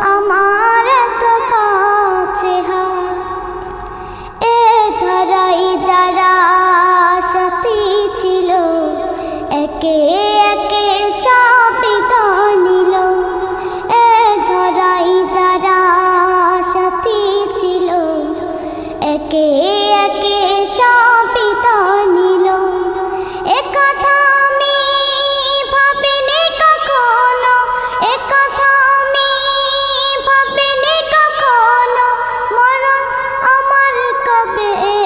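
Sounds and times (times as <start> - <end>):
girl singing devotional song: 0.0 - 35.0.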